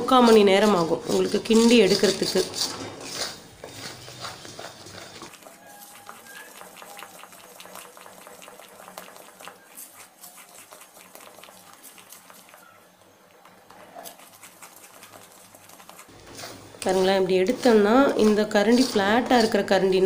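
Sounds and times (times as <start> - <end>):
spatula scraping batter in steel pan: 0.0 - 20.0.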